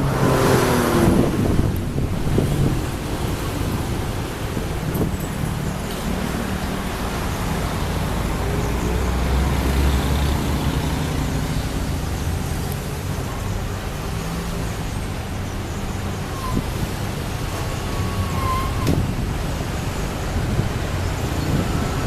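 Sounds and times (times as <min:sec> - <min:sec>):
large engine humming: 0:00.0 - 0:22.0
traffic noise: 0:00.0 - 0:22.0.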